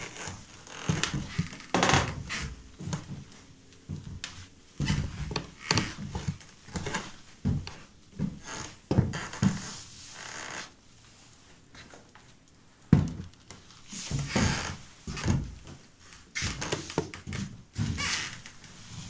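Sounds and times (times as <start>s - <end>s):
footsteps on wooden floor: 0.0s - 10.6s, 12.9s - 18.9s
floorboards creaking: 0.0s - 10.8s, 12.9s - 19.0s.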